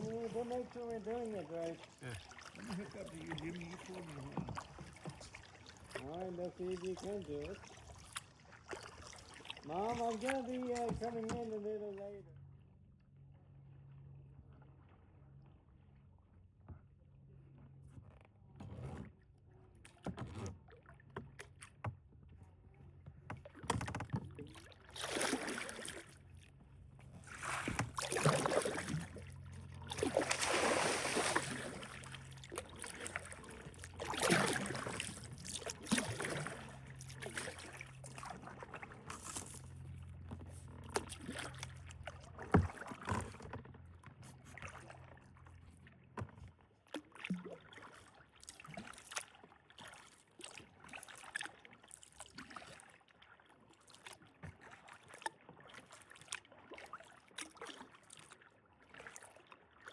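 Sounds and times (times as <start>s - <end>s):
kayak paddle splashing: 0.0s - 12.1s, 18.6s - 59.9s.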